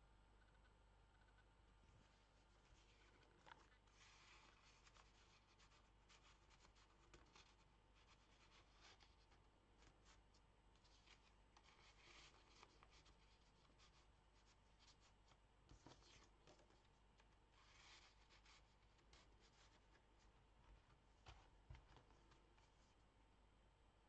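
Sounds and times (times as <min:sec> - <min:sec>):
paper rustling and scraping: 0:02.0 - 0:23.0.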